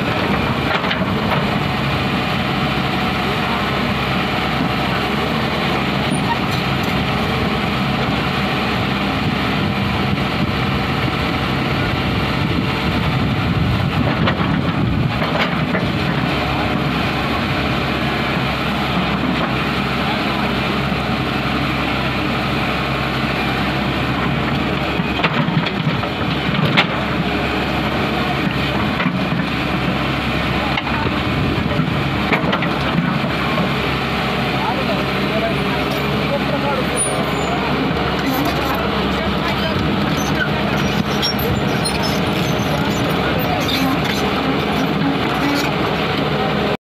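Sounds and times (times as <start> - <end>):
excavator diesel engine running: 0.0 - 46.8.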